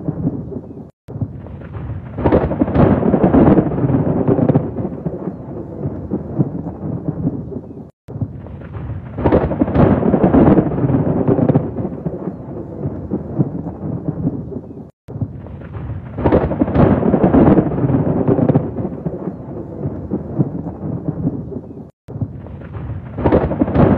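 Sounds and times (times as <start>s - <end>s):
rain: 0.0s - 23.9s
thunder rumbling: 0.0s - 23.9s.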